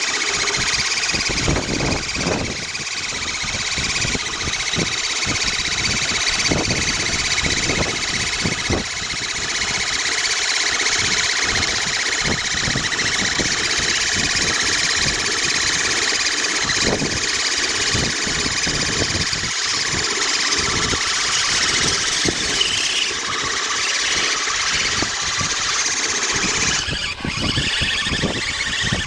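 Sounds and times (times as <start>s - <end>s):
electric motor and gears whining: 0.0s - 29.0s.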